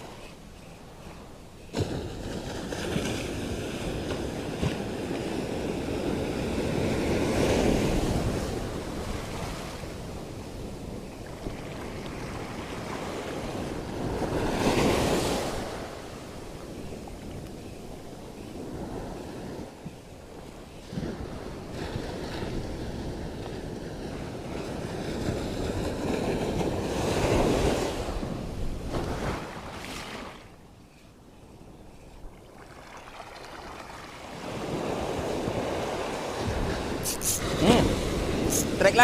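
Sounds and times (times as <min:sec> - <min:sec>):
wind buffeting microphone: 0:00.0 - 0:32.5, 0:33.6 - 0:39.0.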